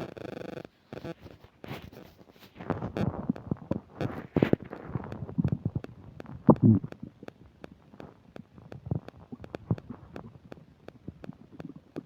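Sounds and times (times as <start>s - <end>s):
stomach gurgling: 1.0s - 12.0s.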